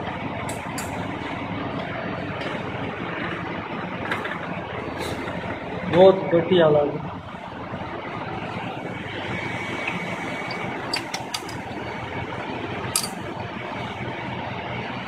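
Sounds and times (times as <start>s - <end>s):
diesel generator running: 0.0s - 15.0s.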